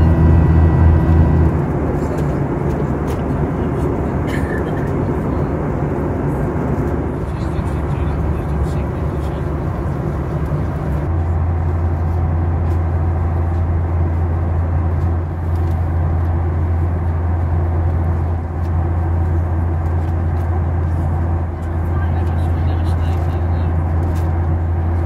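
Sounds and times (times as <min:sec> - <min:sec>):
airplane cabin engine drone: 0:00.0 - 0:25.0.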